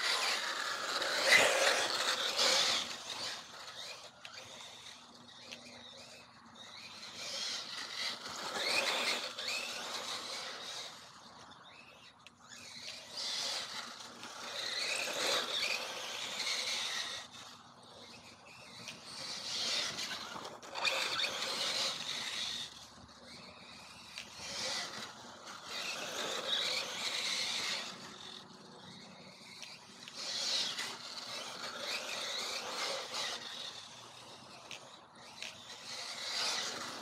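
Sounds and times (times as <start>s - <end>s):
electric motor whine: 0.0s - 37.0s.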